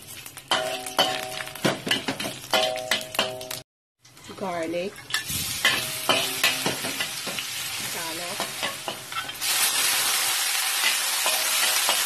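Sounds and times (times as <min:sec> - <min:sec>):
food sizzling in hot oil: 0:00.0 - 0:03.6, 0:04.4 - 0:12.0.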